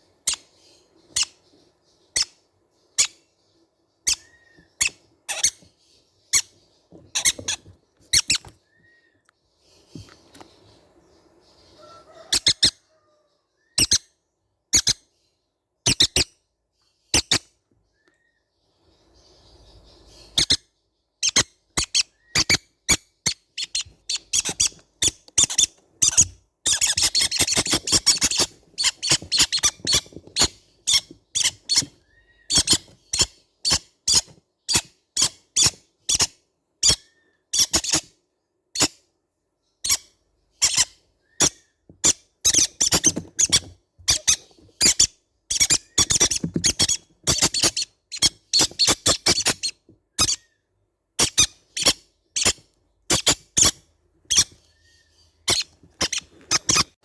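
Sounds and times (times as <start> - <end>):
baby parrots chirping: 0.0 - 57.0.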